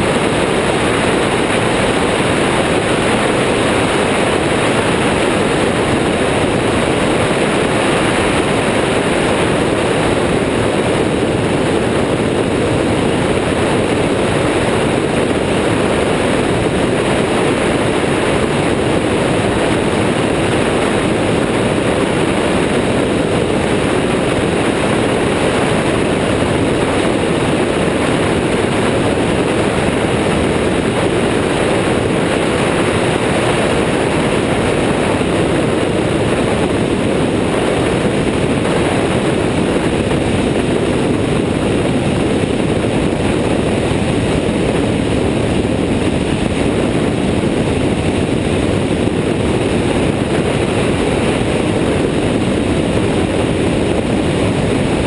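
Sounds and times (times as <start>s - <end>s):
aircraft engine and propeller: 0.0s - 55.0s
wind rushing: 0.0s - 55.0s.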